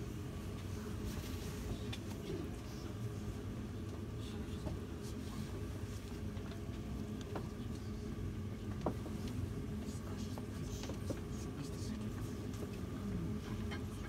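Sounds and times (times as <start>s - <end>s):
crowded room hum: 0.0s - 14.0s.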